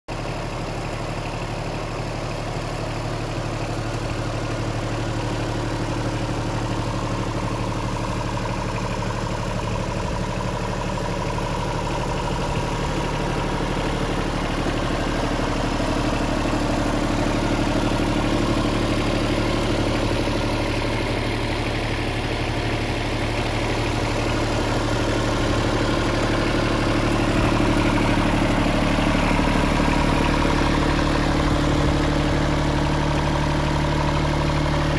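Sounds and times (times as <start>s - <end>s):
diesel tractor engine idling: 0.1s - 34.9s.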